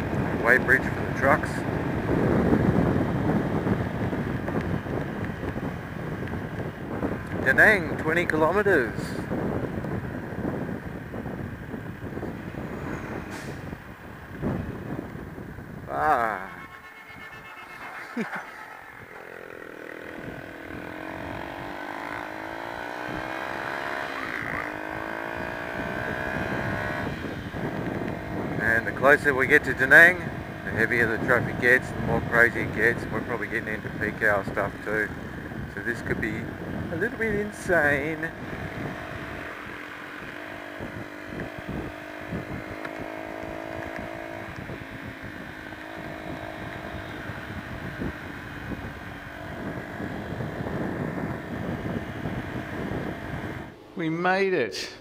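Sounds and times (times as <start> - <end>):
wind noise on microphone: 0.0 - 18.3, 20.1 - 53.8
motorcycle engine accelerating: 0.0 - 54.0.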